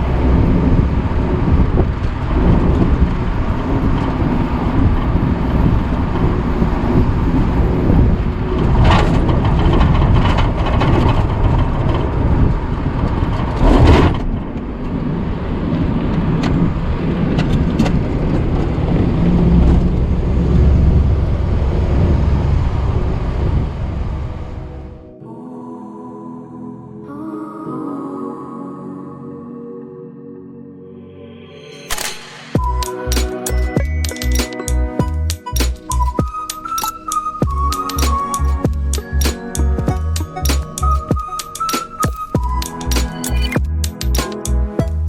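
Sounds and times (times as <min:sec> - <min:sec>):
vehicle rumbling: 0:00.0 - 0:25.2, 0:31.9 - 0:45.0.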